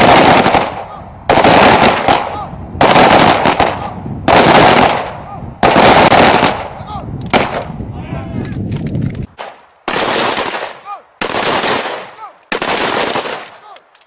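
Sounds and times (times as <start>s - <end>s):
rifle shots echoing: 0.0s - 7.7s, 9.4s - 13.7s.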